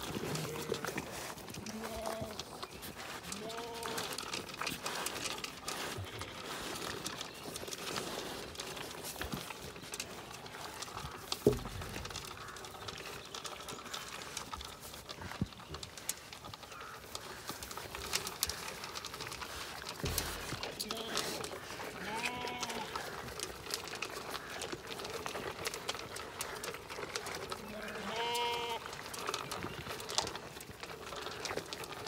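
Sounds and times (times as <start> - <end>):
pellets clicking in metal trough: 0.0 - 32.0
sheep crunching feed pellets: 0.0 - 32.0.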